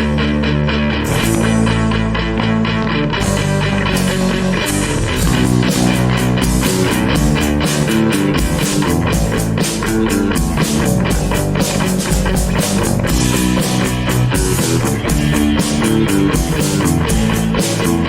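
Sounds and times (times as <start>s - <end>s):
bass guitar: 0.0s - 18.0s
electric guitar: 0.0s - 18.0s
drum kit steady beat: 1.0s - 18.0s.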